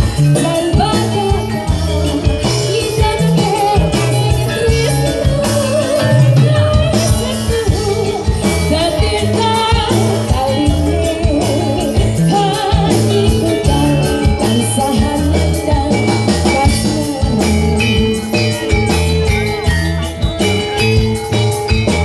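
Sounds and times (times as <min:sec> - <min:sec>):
person singing: 0:00.0 - 0:18.7
drum beat: 0:00.0 - 0:22.0.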